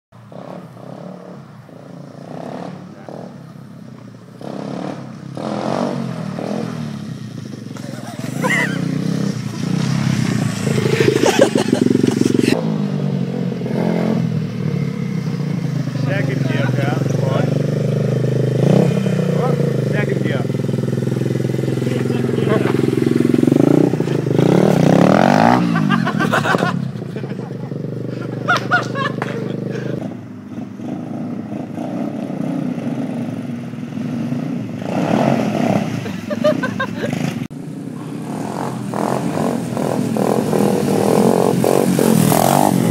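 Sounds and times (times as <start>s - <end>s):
motorbike engine revving: 0.2s - 42.9s.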